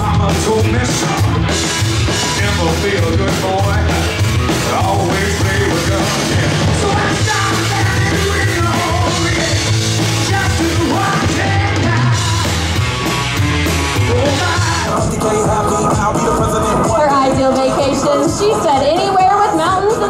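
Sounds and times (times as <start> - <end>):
person singing: 0.0 - 1.4, 2.1 - 12.8, 14.1 - 19.2
bass guitar: 0.0 - 20.0
distorted electric guitars: 0.0 - 20.0
drum kit: 0.0 - 20.0.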